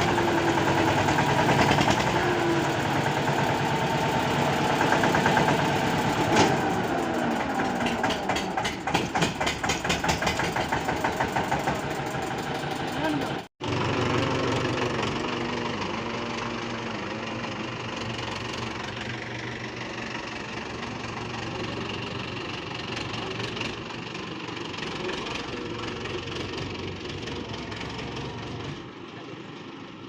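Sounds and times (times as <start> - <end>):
diesel tractor engine running: 0.0 - 30.0.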